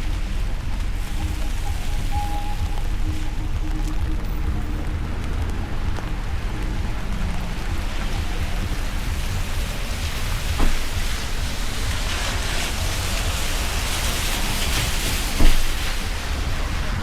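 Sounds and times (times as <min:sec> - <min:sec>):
low rumble: 0:00.0 - 0:17.0
rain falling: 0:00.0 - 0:17.0.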